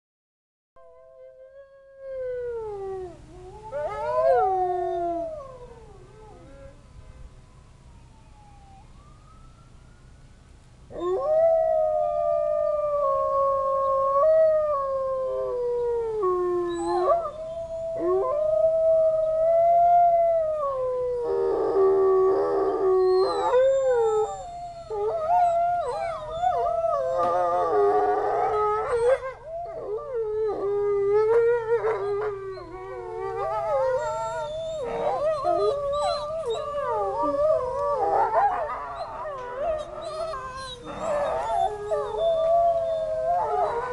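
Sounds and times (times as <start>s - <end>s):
distant sirens: 0.9s - 43.9s
wolves howling: 1.0s - 6.8s, 10.9s - 43.9s.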